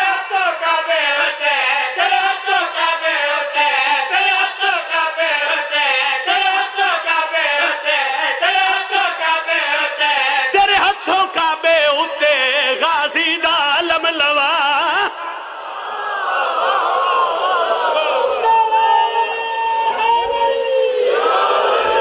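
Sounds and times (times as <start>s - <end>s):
men chanting through microphone: 0.0s - 22.0s.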